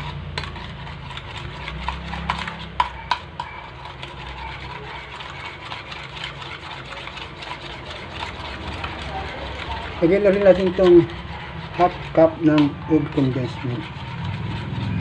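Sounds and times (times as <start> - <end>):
fork whisking egg in bowl: 0.0 - 15.0.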